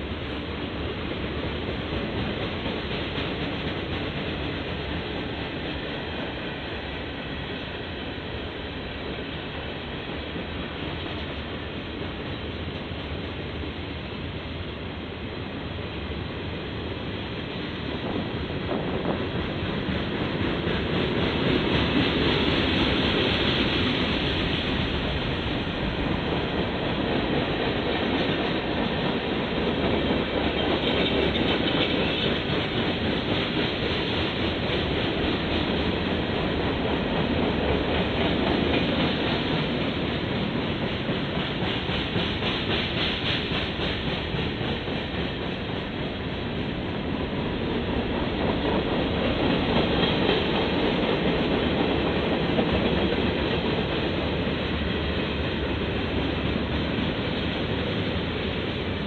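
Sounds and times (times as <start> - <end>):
freight train rumbling past: 0.0 - 59.0
train wheels clacking on rails: 0.0 - 59.0.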